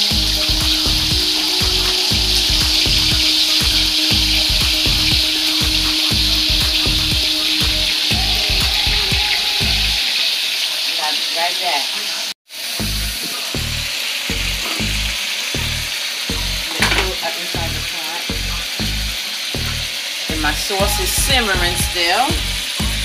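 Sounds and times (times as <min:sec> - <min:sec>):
low thumping beat: 0:00.0 - 0:10.0, 0:12.8 - 0:17.0, 0:18.3 - 0:23.0
bacon sizzling in a frying pan: 0:00.0 - 0:23.0.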